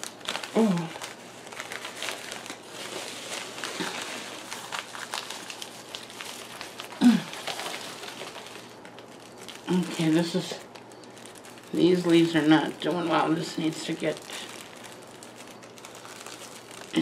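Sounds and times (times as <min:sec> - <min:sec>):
paper and plastic crinkling: 0:00.0 - 0:17.0.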